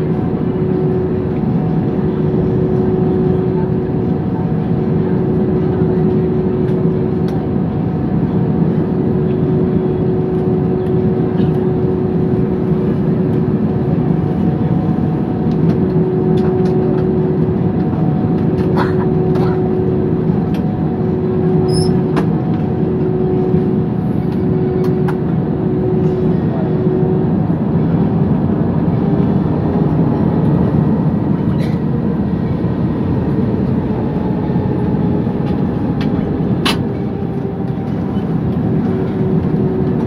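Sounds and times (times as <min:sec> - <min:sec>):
jet engines idling rumble: 0:00.0 - 0:40.0.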